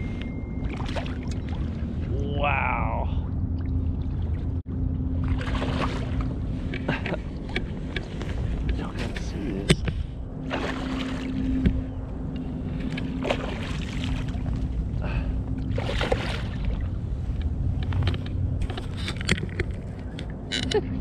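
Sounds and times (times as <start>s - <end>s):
steady low rumble: 0.0s - 21.0s
water splashing and sloshing: 0.0s - 21.0s.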